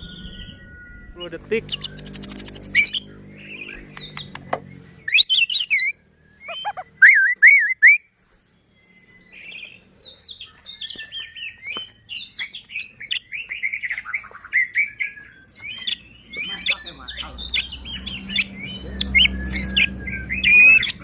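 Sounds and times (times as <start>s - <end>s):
bird singing whistles and chirps: 0.0s - 21.0s.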